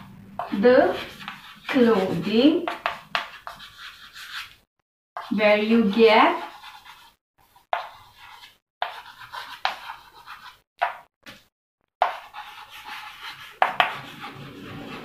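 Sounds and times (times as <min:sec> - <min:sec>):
chalk scratching on blackboard: 0:00.4 - 0:10.6, 0:12.0 - 0:15.0.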